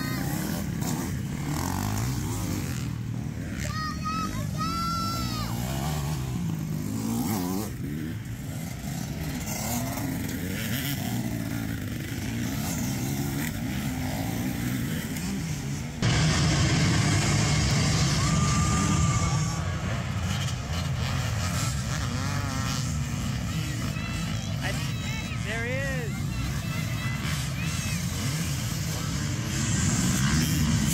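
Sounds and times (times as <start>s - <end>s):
dirt bike engines revving: 0.0s - 30.9s
pack of dirt bikes running: 0.0s - 30.9s.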